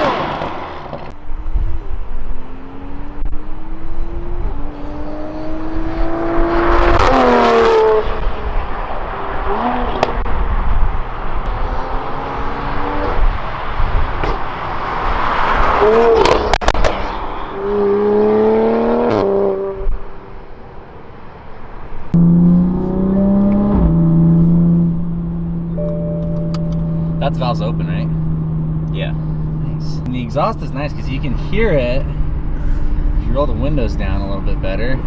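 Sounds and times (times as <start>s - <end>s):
car engine accelerating: 0.0s - 20.2s, 22.0s - 35.0s.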